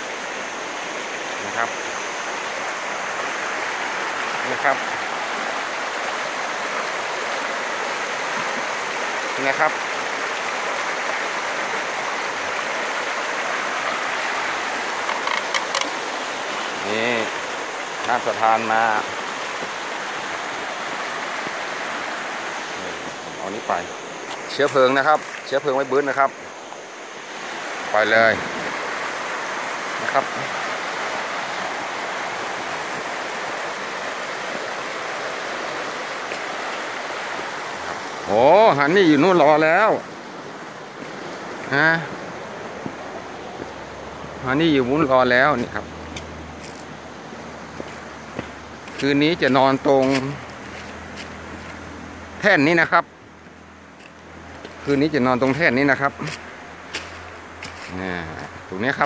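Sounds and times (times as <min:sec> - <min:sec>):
stream rushing over rapids: 0:00.0 - 0:59.0.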